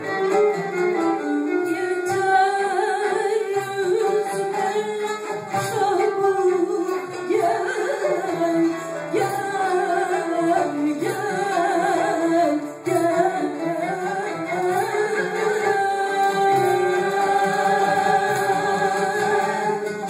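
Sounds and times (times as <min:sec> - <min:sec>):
kanun oud and violin ensemble: 0:00.0 - 0:20.0
woman singing: 0:01.0 - 0:20.0.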